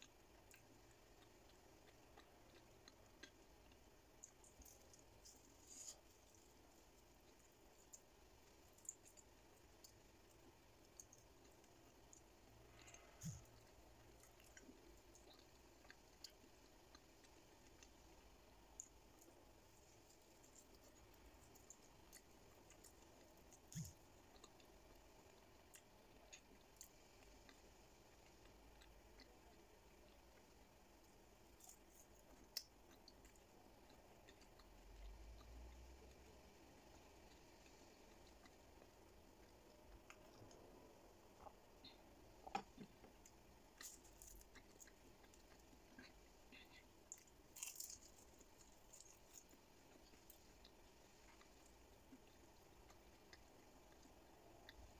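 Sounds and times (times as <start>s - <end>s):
faint chewing of fried food: 0.0s - 54.9s.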